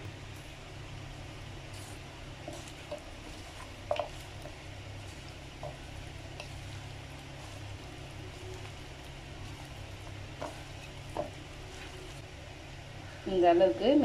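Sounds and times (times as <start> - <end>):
steady low hum: 0.0 - 14.0
wet squelches of mixing chicken: 0.3 - 12.3.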